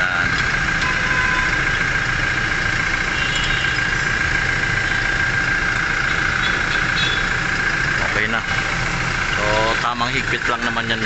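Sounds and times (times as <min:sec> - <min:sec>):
car engine idling: 0:00.0 - 0:11.0
high whine: 0:00.0 - 0:11.0.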